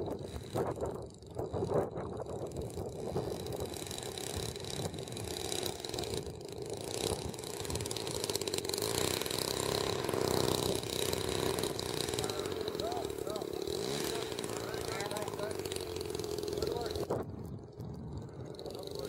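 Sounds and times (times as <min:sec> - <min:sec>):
model plane engine at low throttle: 0:00.0 - 0:19.0.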